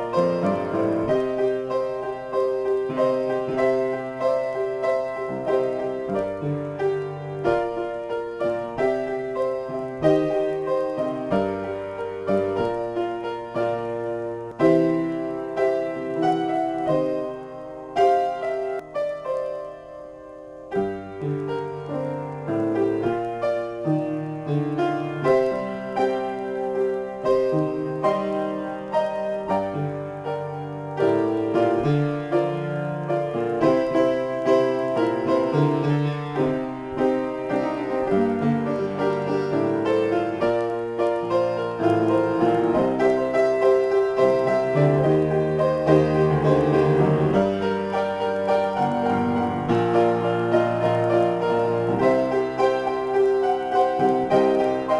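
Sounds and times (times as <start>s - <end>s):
solo upright piano: 0.0s - 54.9s.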